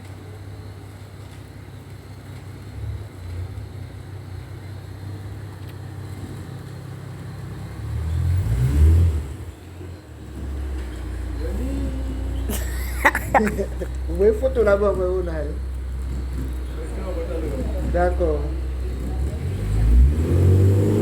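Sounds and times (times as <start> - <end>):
car engine rumbling and revving: 0.0 - 21.0.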